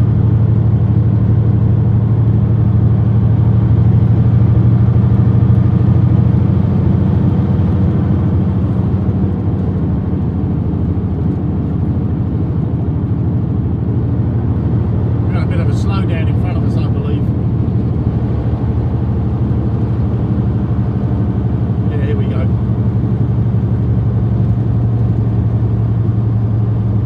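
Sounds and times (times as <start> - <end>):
truck engine and tyre drone: 0.0 - 27.0.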